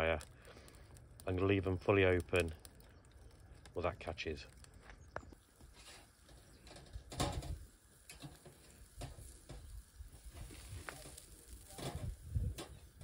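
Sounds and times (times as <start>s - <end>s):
meat sizzling on grill: 0.0s - 13.0s.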